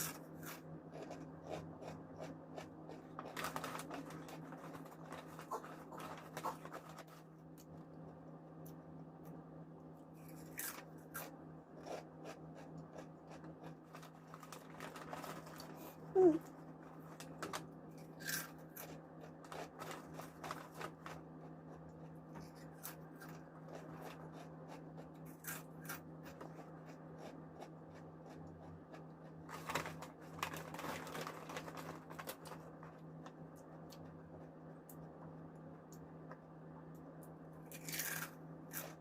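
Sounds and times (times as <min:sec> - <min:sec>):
chewing crunchy chips: 0:00.0 - 0:07.8, 0:10.2 - 0:35.1, 0:37.7 - 0:39.0
steady low hum: 0:00.0 - 0:39.0.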